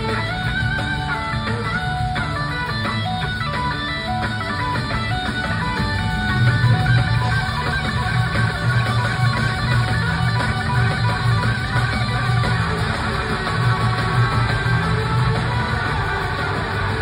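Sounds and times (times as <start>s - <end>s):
blues-rock band playing: 0.0s - 17.0s
electric guitar: 0.0s - 17.0s
pulsing bass line: 0.0s - 17.0s.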